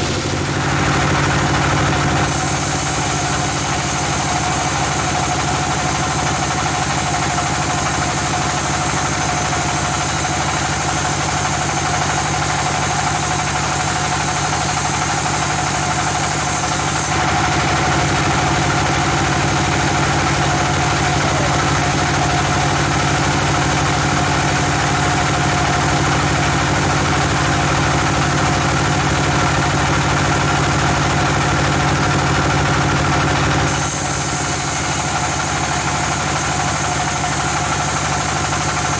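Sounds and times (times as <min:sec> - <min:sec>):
sawmill machine hum: 0:00.0 - 0:38.9.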